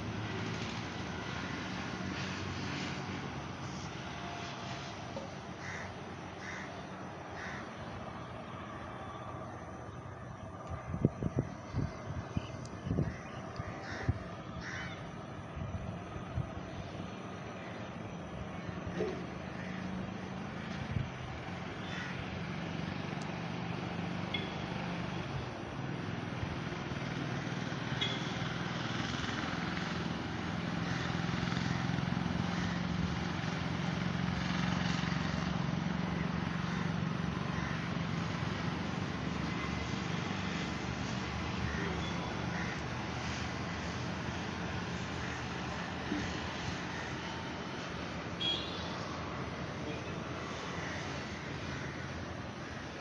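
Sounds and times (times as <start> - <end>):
distant engine drone: 0.0 - 53.0.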